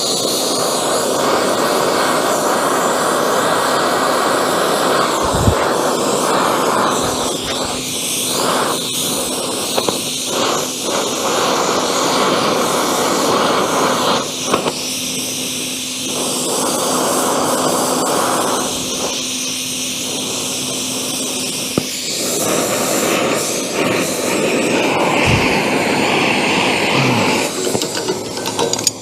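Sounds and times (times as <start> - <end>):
gas torch roaring hiss: 0.0 - 29.0.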